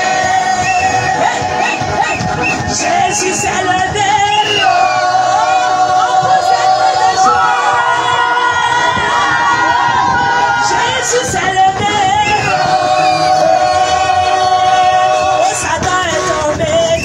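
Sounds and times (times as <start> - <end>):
group singing worship song: 0.0 - 16.6
crowd noise: 0.0 - 17.0
music: 0.0 - 17.0.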